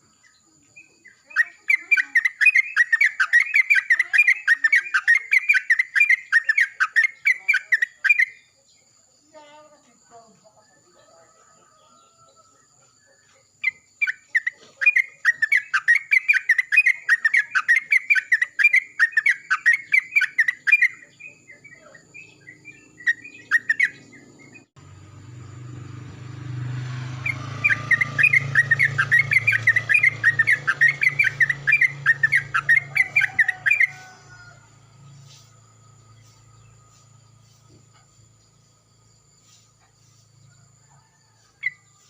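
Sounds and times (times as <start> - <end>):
bulbul chattering song: 0.0 - 10.6, 13.0 - 40.4.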